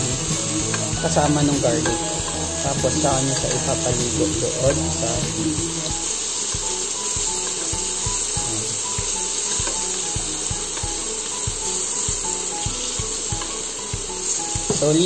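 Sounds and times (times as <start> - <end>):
background music with a beat: 0.0 - 15.0
steak sizzling in a pan: 0.0 - 15.0.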